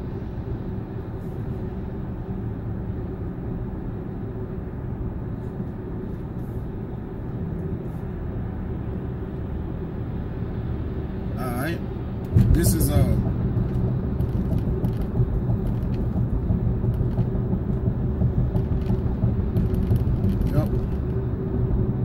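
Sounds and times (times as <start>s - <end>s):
road and engine noise in car: 0.0s - 22.0s.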